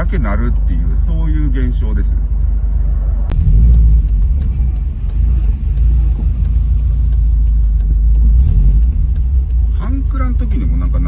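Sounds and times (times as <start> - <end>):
engine and road rumble in car: 0.0 - 11.0.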